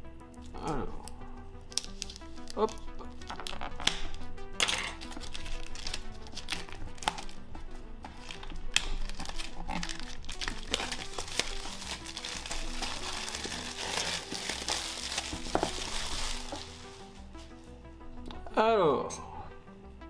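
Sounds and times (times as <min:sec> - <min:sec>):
background music: 0:00.0 - 0:20.0
plastic shrink wrap crinkling: 0:01.1 - 0:17.6.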